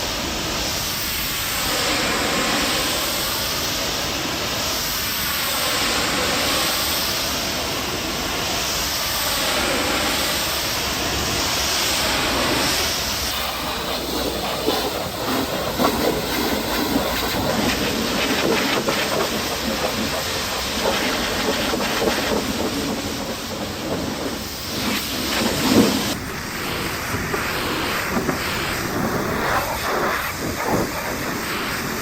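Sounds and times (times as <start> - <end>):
pressure washer spraying water: 0.0 - 32.0.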